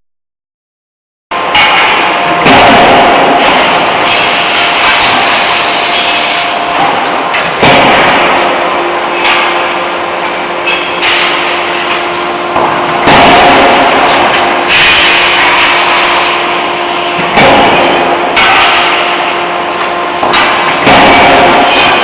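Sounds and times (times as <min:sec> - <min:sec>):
loud steady machine noise: 0:01.3 - 0:22.0
forging hammer heavy blows: 0:01.4 - 0:22.0.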